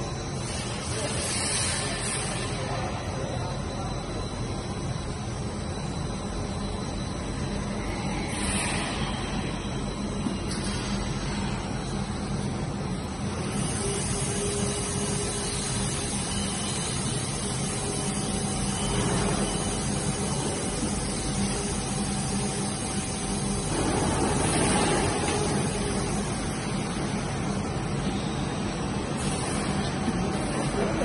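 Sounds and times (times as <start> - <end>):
film blowing machine running: 0.0 - 31.0.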